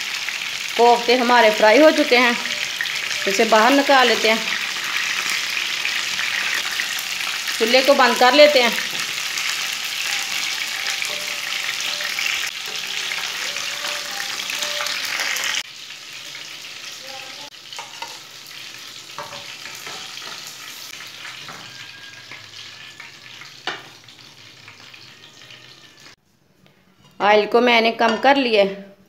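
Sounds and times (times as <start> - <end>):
meat sizzling in hot oil: 0.0 - 26.2.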